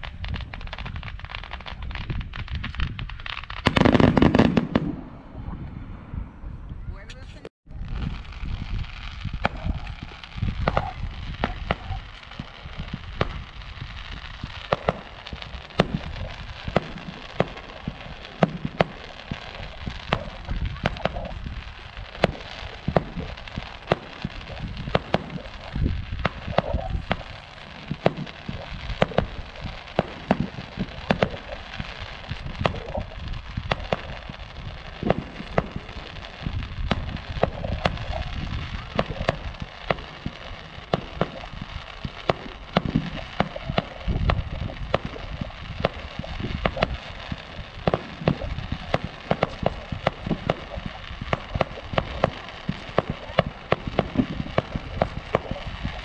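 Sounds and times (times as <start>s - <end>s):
fireworks low booms: 0.0s - 56.0s
fireworks sharp reports: 0.0s - 56.0s.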